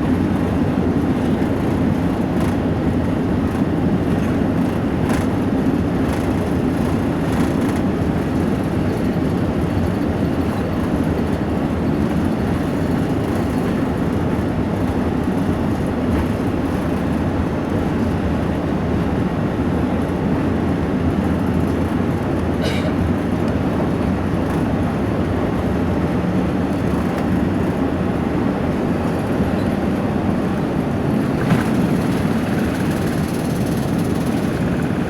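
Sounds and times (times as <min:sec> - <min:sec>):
aircraft engine rumble in cabin: 0:00.0 - 0:35.0.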